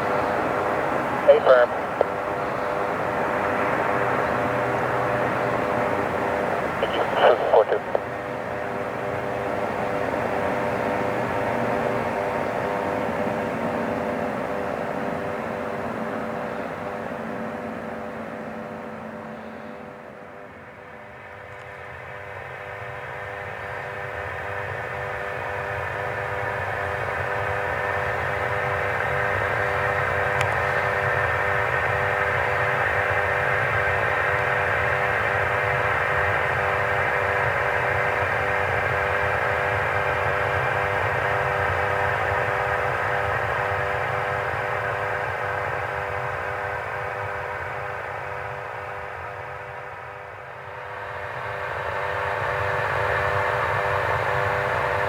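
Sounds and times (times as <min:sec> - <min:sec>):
aircraft engines whining: 0:00.0 - 0:55.0.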